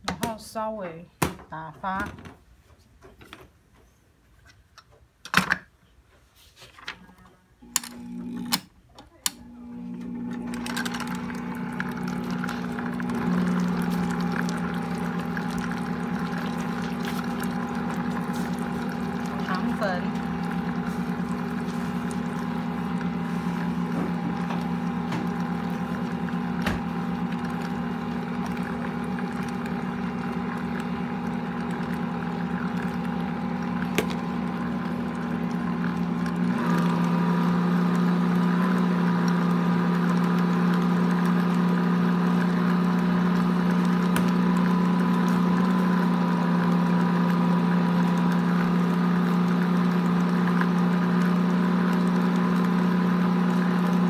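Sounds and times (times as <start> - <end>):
stand mixer motor humming: 7.6 - 8.6, 9.4 - 54.0.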